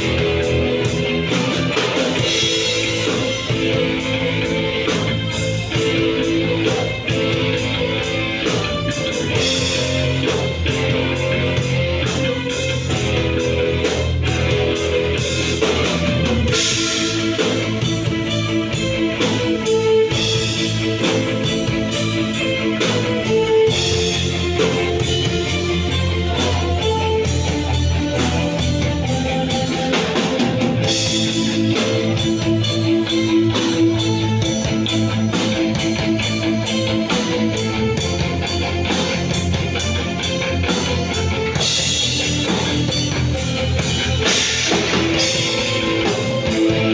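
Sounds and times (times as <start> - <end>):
drum kit: 0.0 - 46.9
electric guitar: 0.0 - 46.9.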